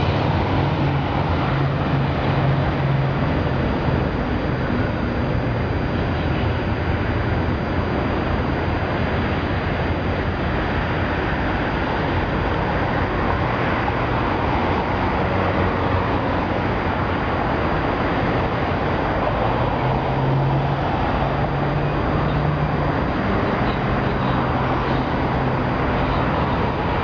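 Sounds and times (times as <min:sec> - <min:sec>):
bus engine hum: 0:00.0 - 0:27.0
traffic noise: 0:00.0 - 0:27.0.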